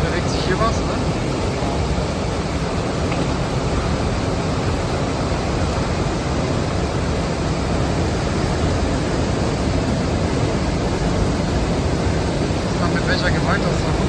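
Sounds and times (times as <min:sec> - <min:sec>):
floodwater rushing through weir: 0:00.0 - 0:14.0.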